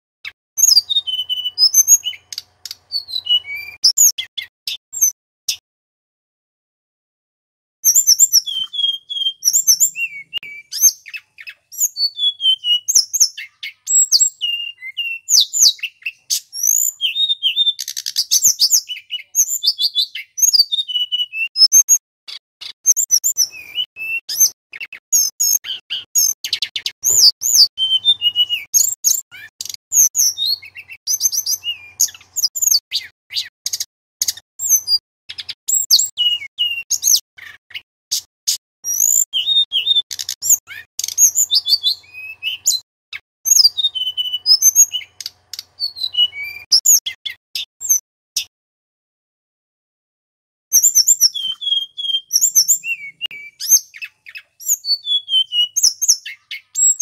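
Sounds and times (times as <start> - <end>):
bird song with whistles and trills: 0.2 - 5.6, 7.8 - 48.5, 50.8 - 57.0.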